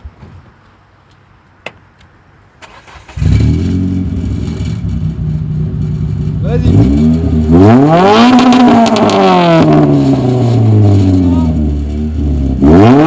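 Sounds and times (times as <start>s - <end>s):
car engine cranking and idling: 0.0s - 13.0s.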